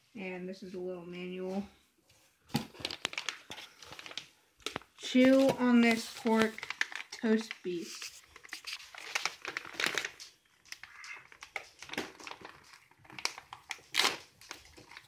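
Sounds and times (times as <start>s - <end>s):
packaging crinkling and rustling: 2.5s - 15.0s.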